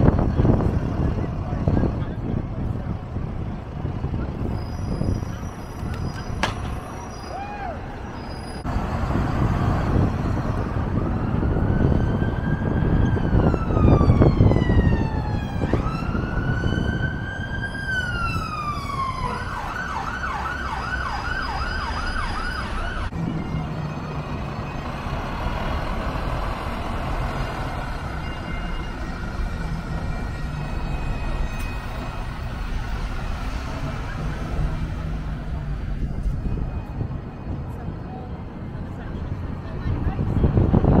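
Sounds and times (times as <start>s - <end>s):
emergency vehicle siren: 0.0s - 39.4s
street traffic rumble: 0.0s - 41.0s.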